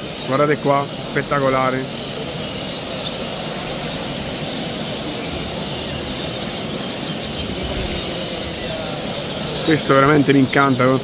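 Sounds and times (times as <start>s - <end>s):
many birds chirping and singing: 0.0s - 11.0s.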